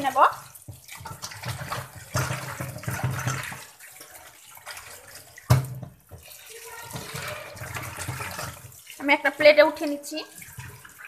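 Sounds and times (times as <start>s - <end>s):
hands rinsing fish: 0.0s - 11.0s
tap water splashing: 0.0s - 11.0s.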